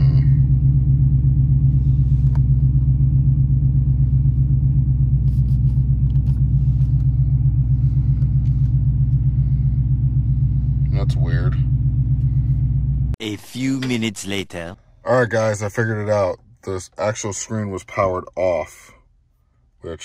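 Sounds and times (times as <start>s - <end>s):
car engine idling: 0.0s - 16.2s.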